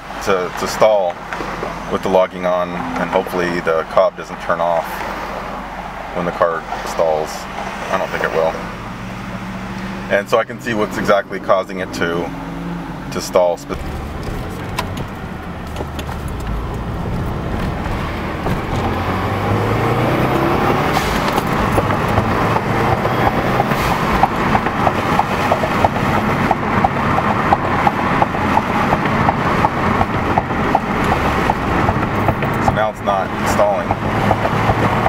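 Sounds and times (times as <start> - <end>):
car engine pulling: 0.0 - 35.0
road noise: 0.0 - 35.0.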